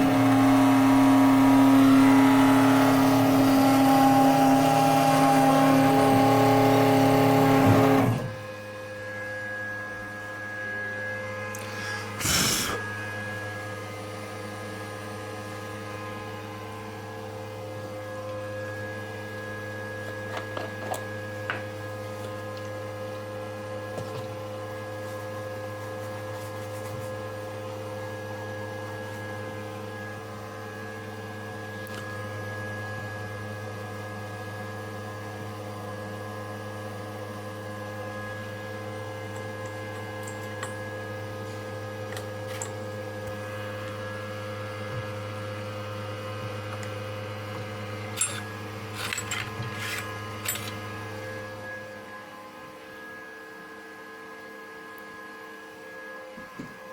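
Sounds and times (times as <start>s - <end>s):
cnc router spindle hum and whine: 0.0s - 56.9s.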